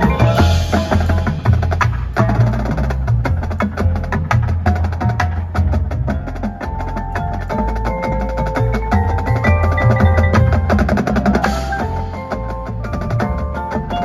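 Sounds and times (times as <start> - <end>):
percussion ensemble with marimbas and drums: 0.0 - 14.0.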